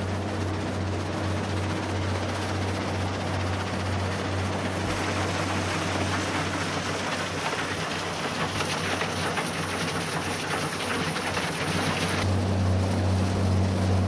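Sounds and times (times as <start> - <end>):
hissing crackling noise: 0.0 - 13.8
low engine hum: 0.0 - 14.0.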